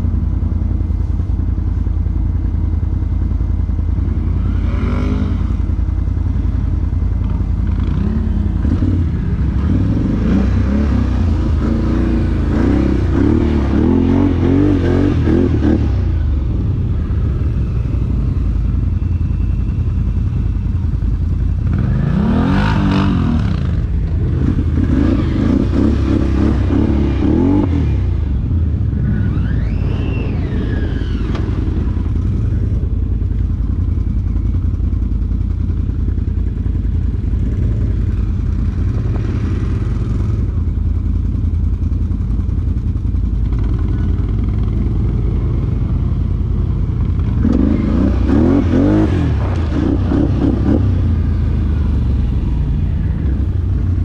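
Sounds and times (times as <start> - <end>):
steady low rumble: 0.0 - 54.0
atv engine revving: 1.6 - 54.0.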